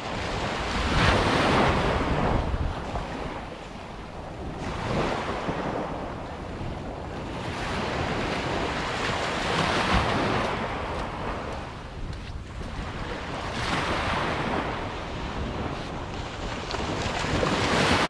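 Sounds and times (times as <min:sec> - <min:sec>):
small waves washing up beach: 0:00.0 - 0:18.0
wind rumbling on microphone: 0:00.0 - 0:18.0.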